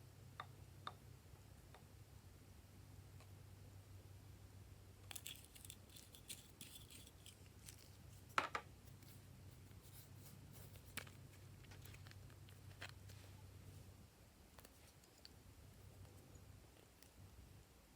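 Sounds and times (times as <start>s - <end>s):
faint low hum: 0.0s - 17.9s.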